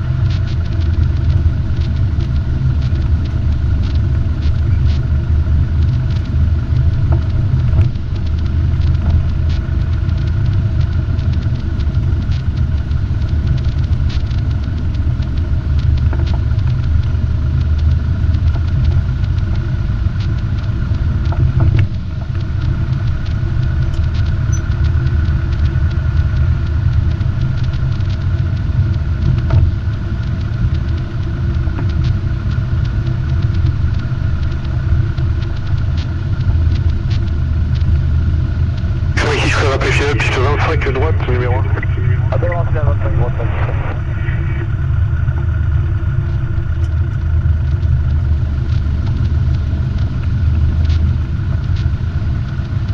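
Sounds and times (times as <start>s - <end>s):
light aircraft engine droning: 0.0s - 52.9s.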